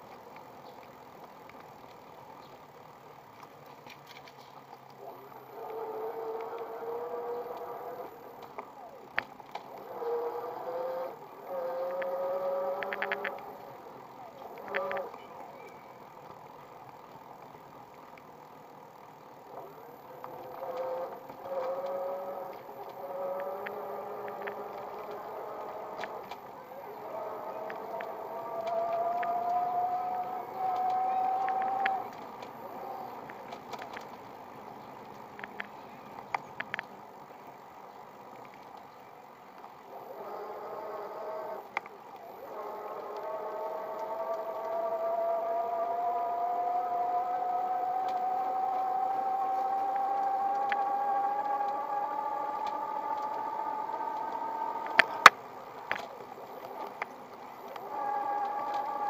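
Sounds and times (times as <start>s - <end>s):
bicycle tyres rolling hiss: 0.0s - 59.0s
sharp clicks: 3.3s - 18.4s, 19.4s - 34.3s, 35.0s - 37.0s, 39.5s - 59.0s
electric motor whine: 4.9s - 36.3s, 39.4s - 59.0s.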